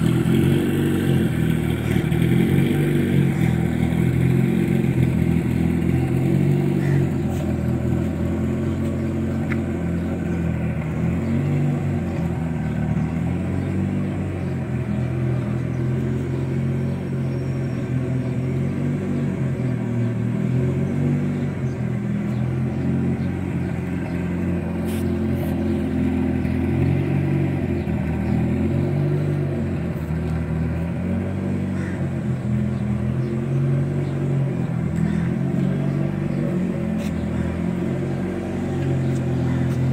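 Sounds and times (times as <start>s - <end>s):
car engine droning steadily: 0.0s - 39.9s.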